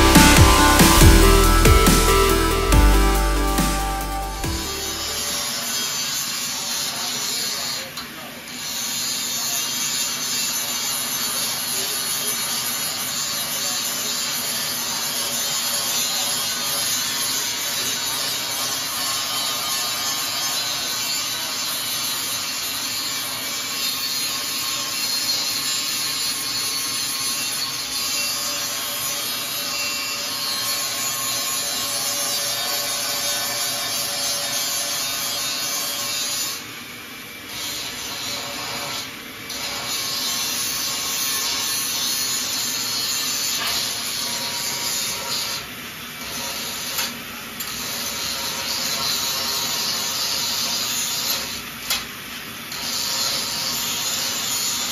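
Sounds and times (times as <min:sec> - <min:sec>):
angle grinder cutting metal: 0:00.0 - 0:36.6, 0:37.5 - 0:52.1, 0:52.7 - 0:54.9.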